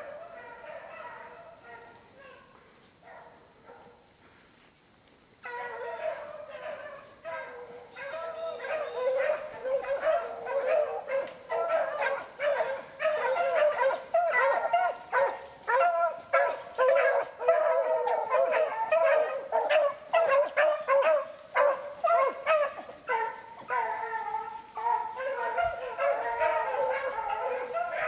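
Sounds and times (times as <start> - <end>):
hounds baying: 0.0 - 4.1, 5.4 - 28.0.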